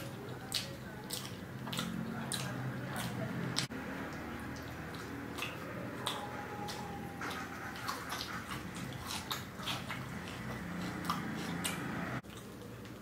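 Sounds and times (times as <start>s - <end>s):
lip smacks and mouth clicks: 0.0s - 13.0s
wet chewing: 0.0s - 13.0s.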